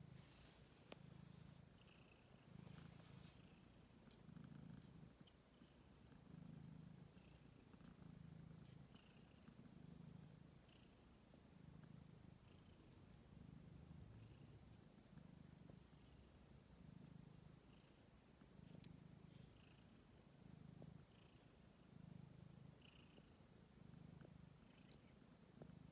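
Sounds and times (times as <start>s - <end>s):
cat purring: 0.0s - 25.9s.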